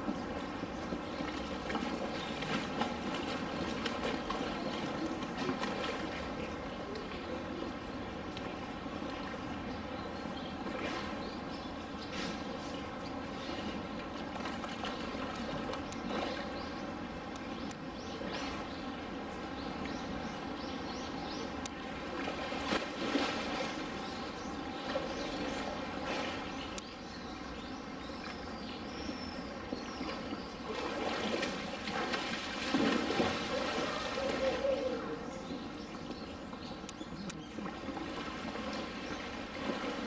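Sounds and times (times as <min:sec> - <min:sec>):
water splashing and trickling: 0:00.0 - 0:20.6, 0:21.5 - 0:40.0.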